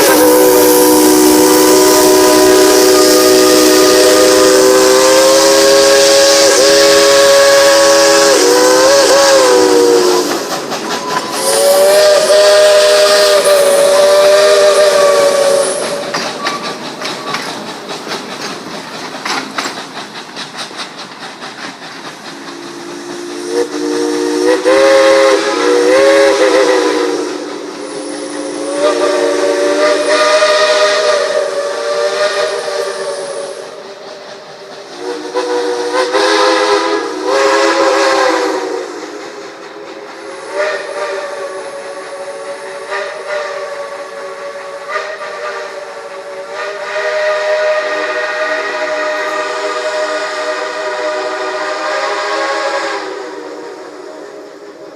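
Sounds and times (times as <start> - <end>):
steam locomotive chime whistle: 0.0 - 17.5, 22.3 - 34.3, 35.0 - 54.9
steam hissing: 0.0 - 54.9.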